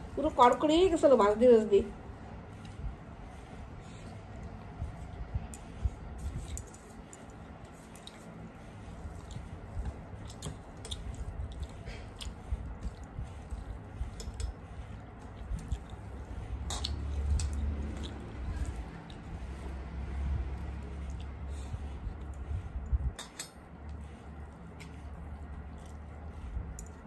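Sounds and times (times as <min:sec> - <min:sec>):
rice squishing by hand: 0:00.0 - 0:27.0
people chewing: 0:02.4 - 0:27.0.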